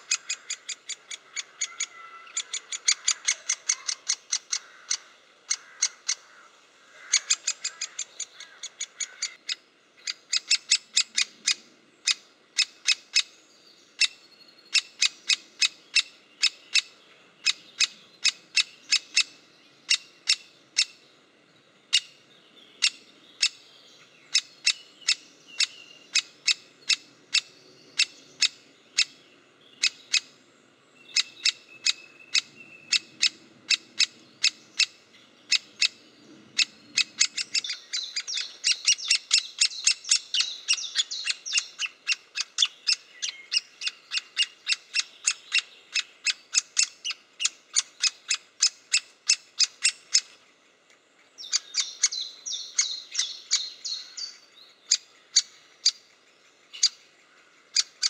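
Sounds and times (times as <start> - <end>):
woodpecker nestling calling: 0.0 - 21.1, 21.8 - 30.4, 31.0 - 50.4, 51.3 - 58.0.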